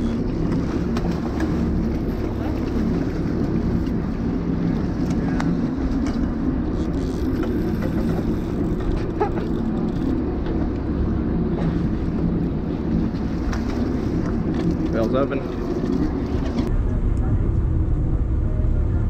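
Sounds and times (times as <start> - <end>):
boat engine humming: 0.0 - 19.0
sea washing against hull: 0.0 - 19.0.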